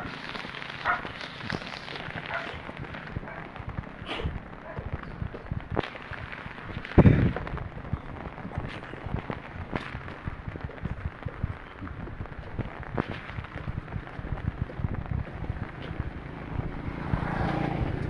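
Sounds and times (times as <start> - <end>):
sharp pops and taps: 0.0 - 16.8.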